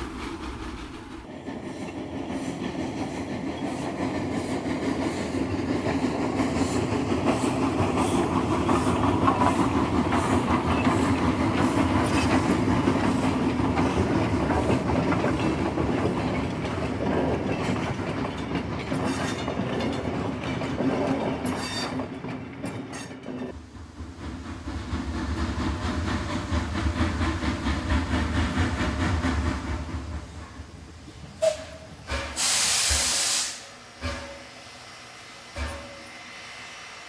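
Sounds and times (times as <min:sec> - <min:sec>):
train wheels clicking on rails: 0:00.0 - 0:36.4.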